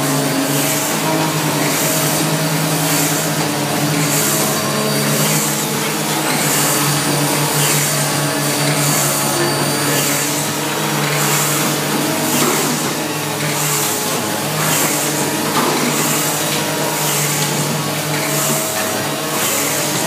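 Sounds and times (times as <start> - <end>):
machine motor and blower hum: 0.0 - 20.0.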